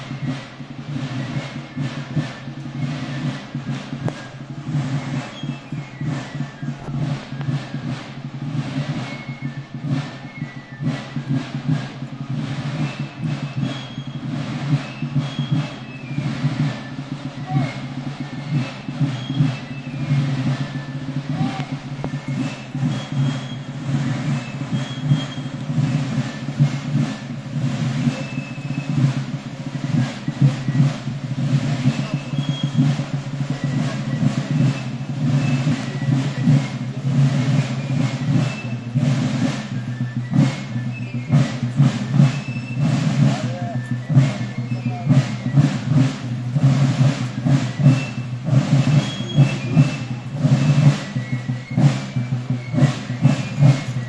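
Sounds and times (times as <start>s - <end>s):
marching drums beating: 0.0s - 54.0s.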